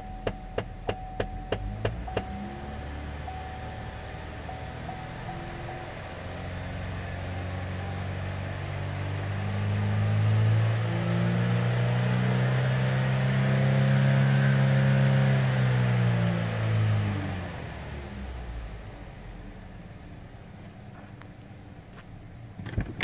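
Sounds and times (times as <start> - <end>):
car engine revving: 0.3 - 19.5.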